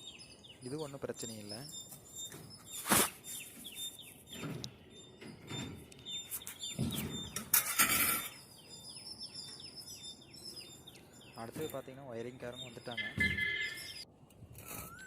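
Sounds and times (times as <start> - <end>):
small bird chirping: 0.0 - 14.1.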